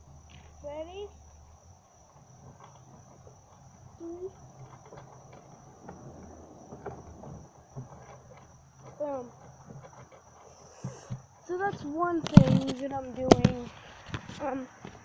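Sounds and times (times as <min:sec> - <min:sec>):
crickets trilling: 0:00.0 - 0:15.0
light knocks and rustles: 0:02.1 - 0:15.0.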